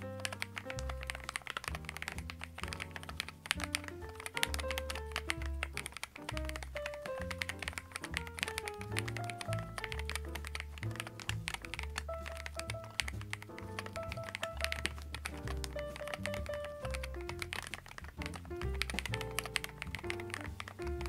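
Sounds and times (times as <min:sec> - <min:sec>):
background music: 0:00.0 - 0:21.0
mechanical keyboard typing: 0:00.0 - 0:21.0.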